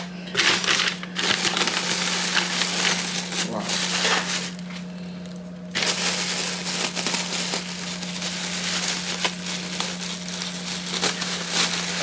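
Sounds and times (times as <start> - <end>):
plastic bags crinkling: 0.3 - 12.0.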